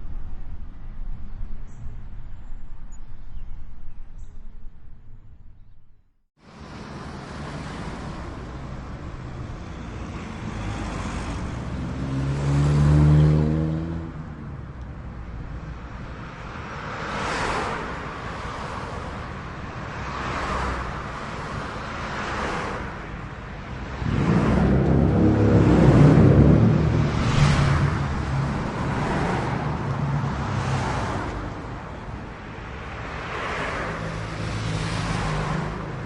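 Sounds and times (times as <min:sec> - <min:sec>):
constant traffic noise: 0:00.0 - 0:36.0
cars driving by: 0:06.4 - 0:36.0.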